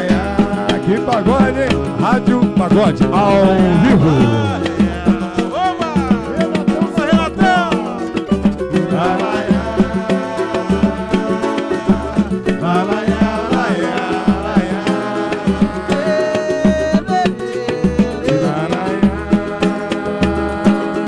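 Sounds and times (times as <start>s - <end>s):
live band playing: 0.0s - 21.0s
samba percussion: 0.0s - 21.0s.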